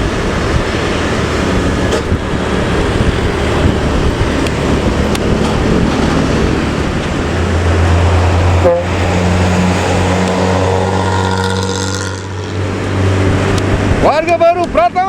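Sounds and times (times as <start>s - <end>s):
bus engine droning: 0.0s - 15.0s
road and tyre noise: 0.0s - 15.0s.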